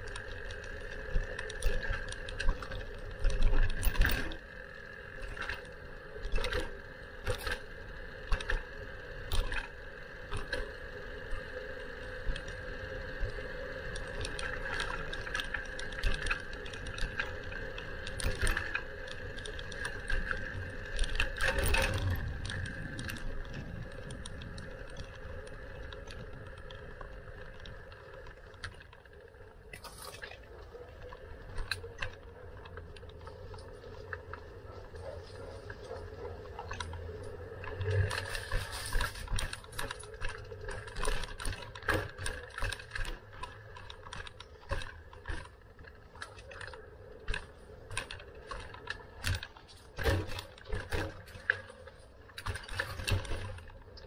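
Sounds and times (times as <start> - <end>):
bicycle rattling and clicking: 0.0 - 54.0.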